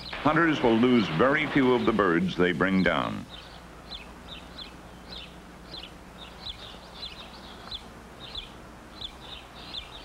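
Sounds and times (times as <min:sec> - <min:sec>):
faint low hum: 0:00.0 - 0:10.0
small birds chirping: 0:00.0 - 0:10.0.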